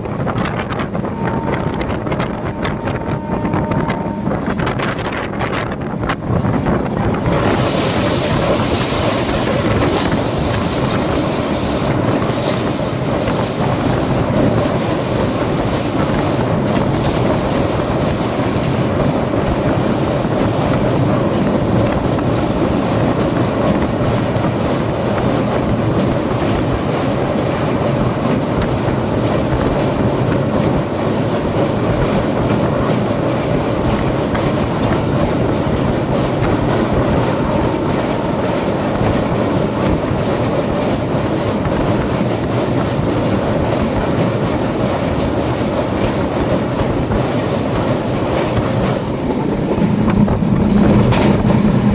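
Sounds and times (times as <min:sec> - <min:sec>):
train running on track: 0:00.0 - 0:51.9.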